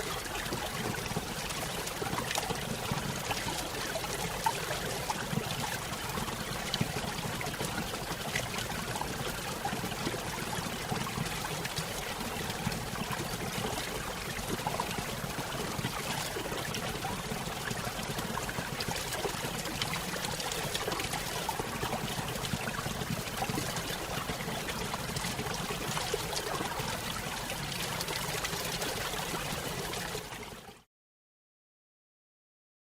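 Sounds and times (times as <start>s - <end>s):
water splashes and trickles: 0.0s - 30.9s.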